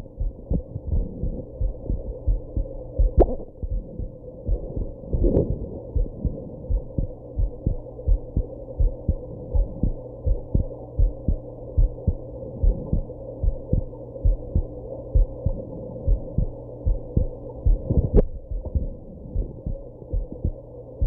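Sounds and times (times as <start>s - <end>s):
heartbeat thumps: 0.0s - 20.6s
low steady hum: 0.0s - 21.0s.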